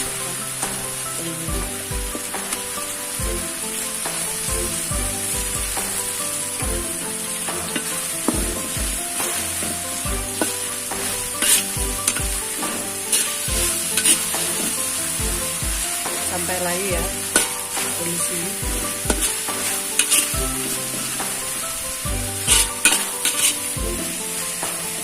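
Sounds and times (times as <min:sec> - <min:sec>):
paste sizzling in hot oil: 0:00.0 - 0:25.0
spatula scraping pan: 0:03.4 - 0:25.0.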